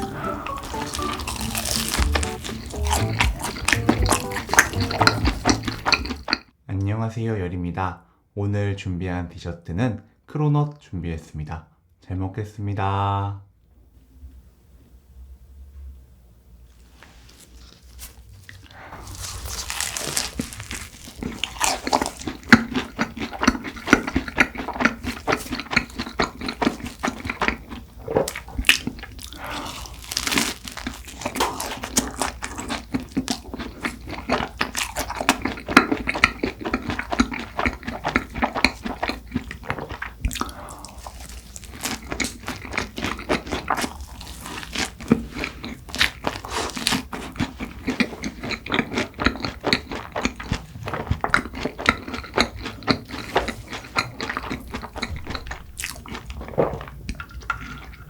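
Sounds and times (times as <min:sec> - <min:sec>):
crisp pastry crackles: 0:00.0 - 0:06.4, 0:17.1 - 0:58.0
chewing: 0:00.0 - 0:06.5, 0:17.6 - 0:58.0.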